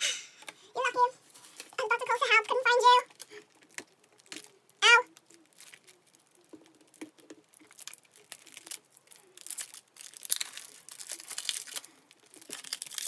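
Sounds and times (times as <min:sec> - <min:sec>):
plastic wrap crinkling: 0:01.2 - 0:13.0
packaging clicks and rustles: 0:02.5 - 0:13.0.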